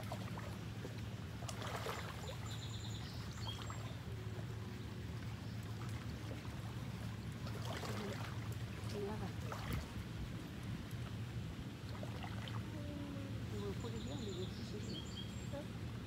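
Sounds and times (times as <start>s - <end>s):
boat motor humming: 0.0s - 16.0s
water splashing against hull: 0.0s - 16.0s.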